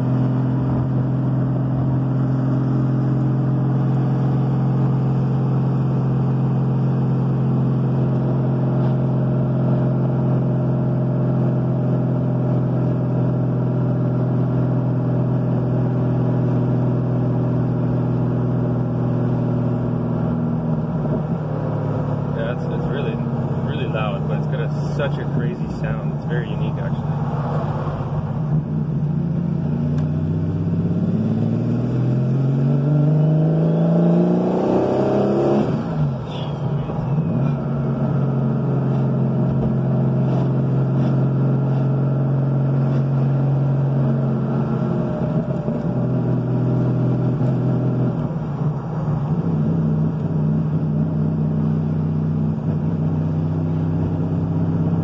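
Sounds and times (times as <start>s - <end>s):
car engine from inside cabin: 0.0s - 55.0s.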